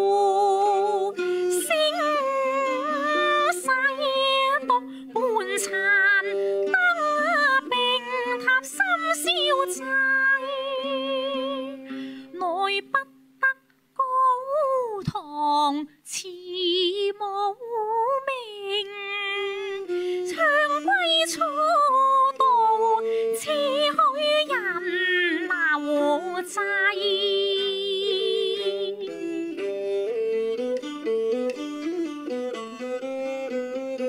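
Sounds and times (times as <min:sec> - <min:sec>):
plucked lute: 0:00.0 - 0:15.2, 0:17.6 - 0:34.0
woman singing with vibrato: 0:00.0 - 0:29.7
bowed erhu: 0:00.0 - 0:34.0.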